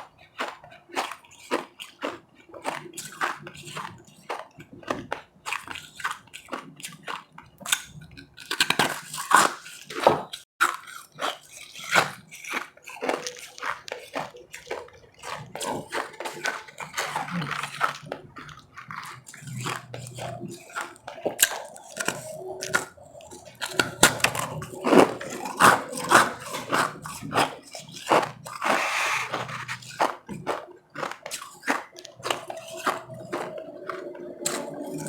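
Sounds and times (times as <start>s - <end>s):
chewing crunchy ice: 0.0s - 35.0s.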